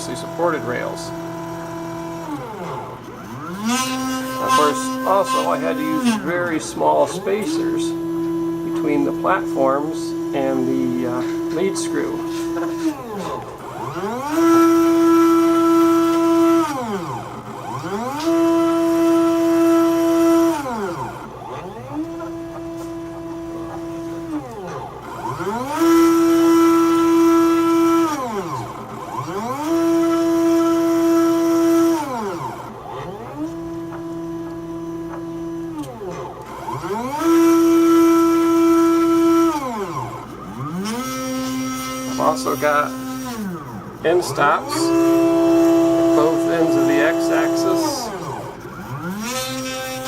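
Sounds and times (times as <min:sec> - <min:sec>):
stepper motors whining: 0:00.0 - 0:50.0.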